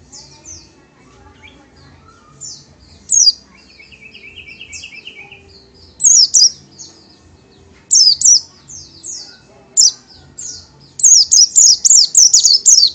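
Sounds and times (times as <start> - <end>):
bird singing high whistled notes: 0.1 - 6.9, 7.9 - 12.9.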